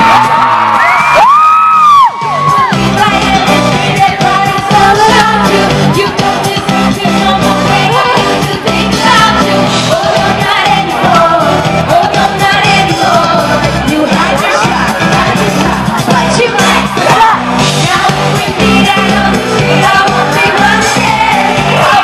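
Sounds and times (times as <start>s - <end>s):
audience singing and shouting: 0.0s - 22.0s
band playing through loudspeakers: 0.0s - 22.0s
woman singing live: 2.4s - 22.0s.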